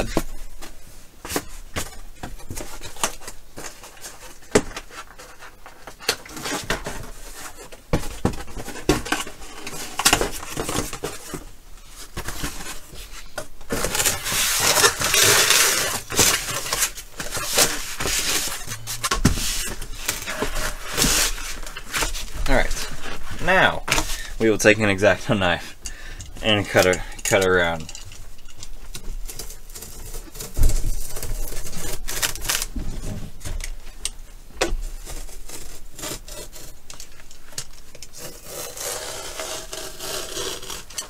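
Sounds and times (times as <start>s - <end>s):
rustling or scraping: 0.0s - 25.8s, 26.4s - 34.0s.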